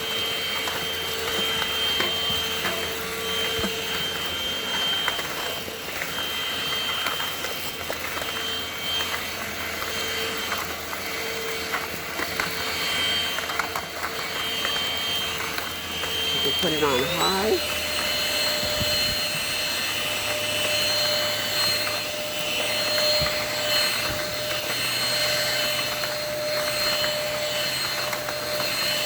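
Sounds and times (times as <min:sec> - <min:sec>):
stick vacuum whining: 0:00.0 - 0:29.0.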